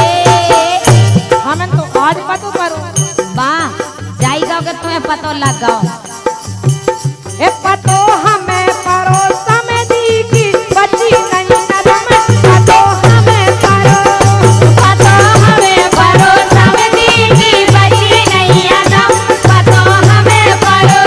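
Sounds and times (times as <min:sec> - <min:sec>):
woman singing: 0:00.0 - 0:06.4, 0:07.4 - 0:21.0
drum beat: 0:00.0 - 0:21.0.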